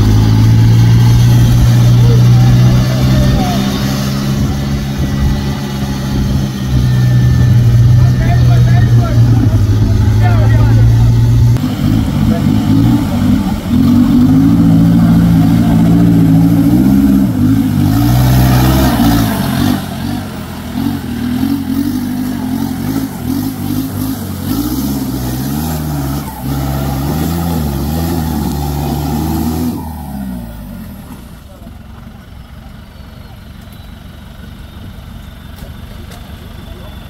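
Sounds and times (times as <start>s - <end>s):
engine revving: 0.0s - 31.7s.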